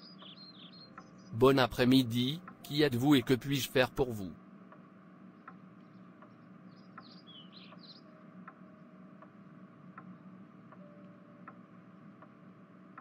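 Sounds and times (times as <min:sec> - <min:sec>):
steady ticking: 0:00.1 - 0:13.0.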